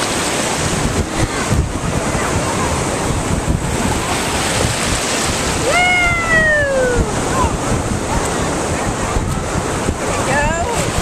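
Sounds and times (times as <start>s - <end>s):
small waves washing in: 0.0s - 11.0s
wind buffeting microphone: 0.0s - 11.0s.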